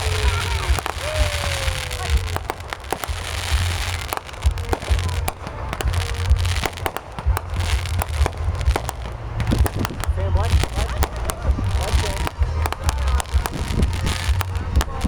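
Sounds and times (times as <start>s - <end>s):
deep rumble: 0.0s - 15.0s
fireworks bangs and crackles: 0.0s - 15.0s.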